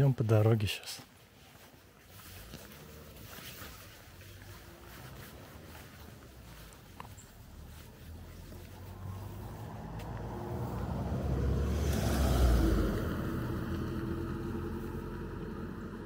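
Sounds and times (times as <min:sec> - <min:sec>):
vehicle driving past: 0:02.2 - 0:16.0.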